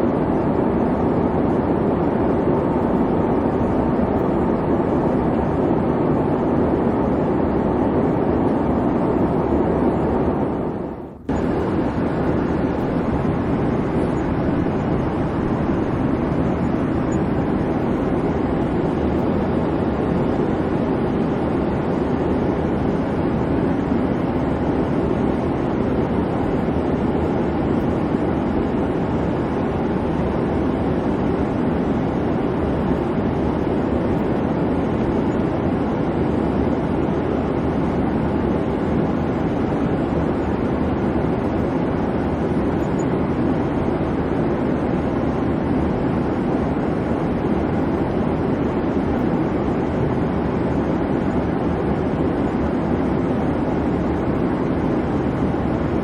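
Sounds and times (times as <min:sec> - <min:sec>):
airliner cabin jet engine rumble: 0:00.0 - 0:56.0.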